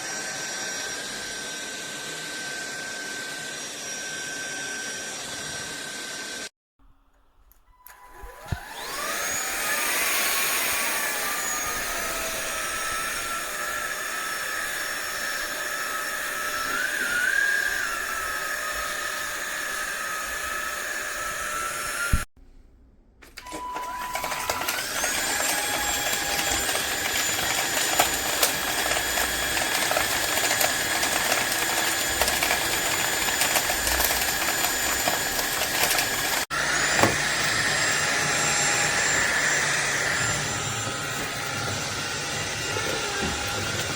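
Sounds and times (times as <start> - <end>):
vacuum motor whining: 0.0 - 6.5, 7.6 - 22.3, 23.4 - 43.9.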